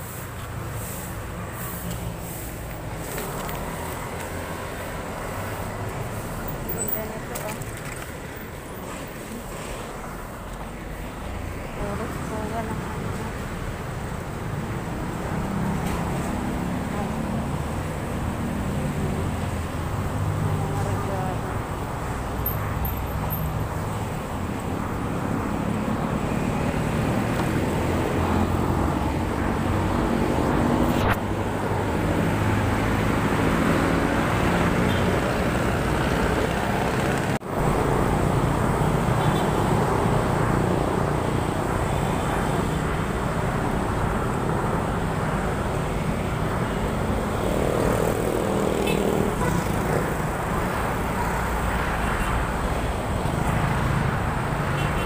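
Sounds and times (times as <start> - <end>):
cars and vans passing: 0.0 - 55.0
motorcycles passing: 0.0 - 55.0.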